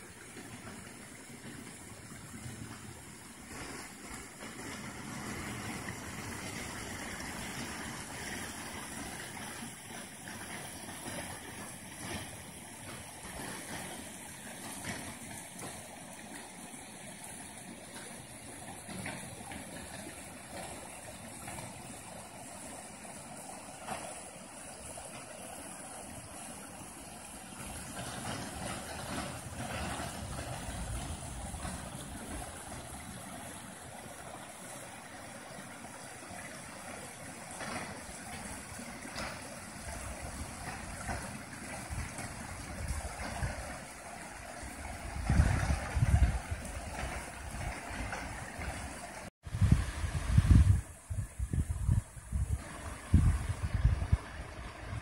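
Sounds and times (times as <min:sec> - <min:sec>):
creek water splashing over log: 0:00.0 - 0:55.0.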